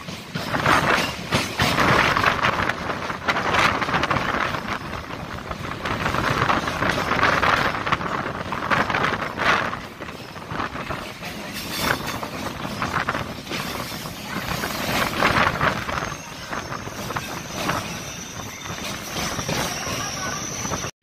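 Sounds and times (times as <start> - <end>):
train wheels rumbling on track: 0.0 - 20.9.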